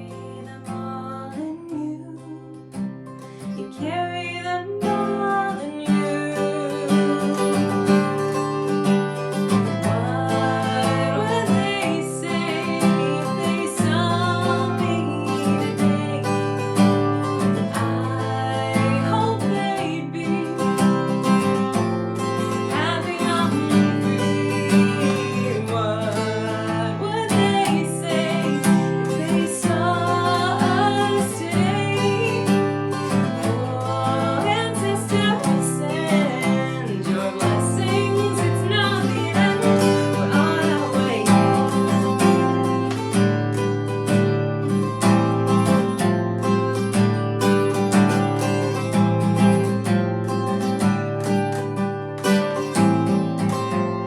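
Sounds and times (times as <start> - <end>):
person singing: 0.0 - 2.8, 3.5 - 46.0
acoustic guitar playing: 0.0 - 54.0.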